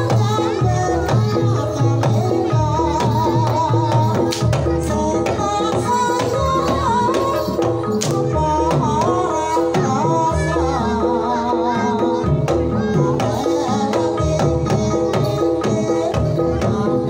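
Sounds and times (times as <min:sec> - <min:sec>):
hand drum beating: 0:00.0 - 0:17.0
woman singing wavering melody: 0:00.0 - 0:17.0.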